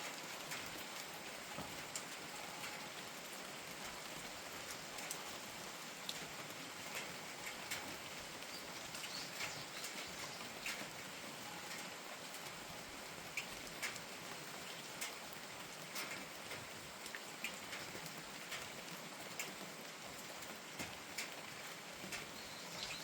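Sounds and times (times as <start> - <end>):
rain hissing: 0.0 - 23.0.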